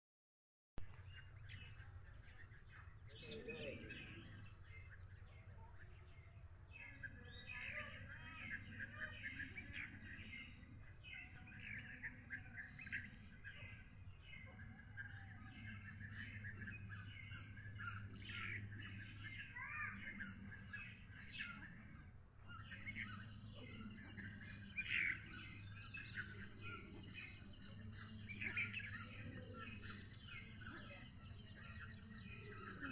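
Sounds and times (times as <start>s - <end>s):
small birds chirping: 0.9s - 32.9s.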